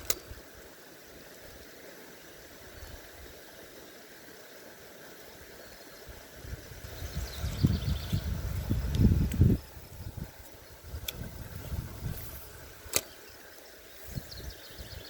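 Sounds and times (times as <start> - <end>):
faint outdoor noise: 0.0 - 15.0.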